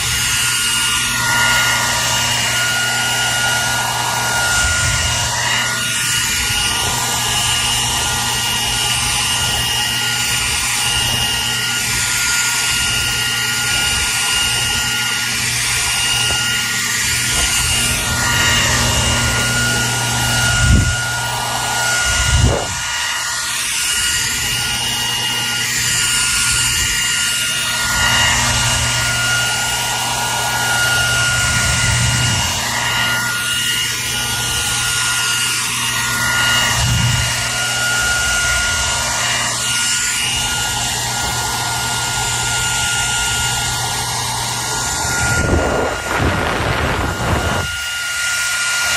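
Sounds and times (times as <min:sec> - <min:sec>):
hair dryer running: 0:00.0 - 0:48.9.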